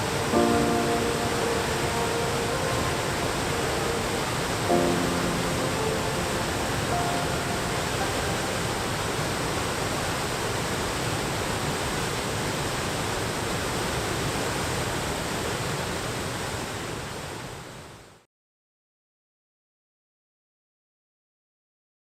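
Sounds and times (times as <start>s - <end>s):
rushing river rapids roar: 0.0s - 18.1s.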